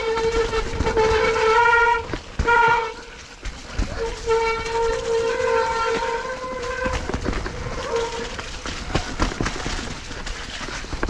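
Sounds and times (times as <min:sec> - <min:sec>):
bike rattling on rough ground: 0:00.0 - 0:11.0.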